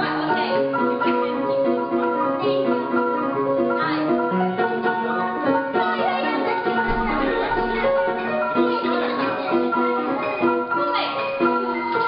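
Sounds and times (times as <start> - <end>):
upright piano lively tune: 0.0 - 12.0.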